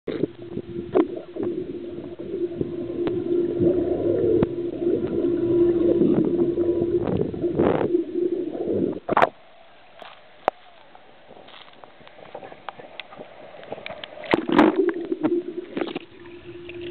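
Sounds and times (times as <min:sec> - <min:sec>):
underwater bubbles gurgling: 0:00.1 - 0:09.4, 0:11.2 - 0:16.9
steady low hum: 0:00.1 - 0:16.9.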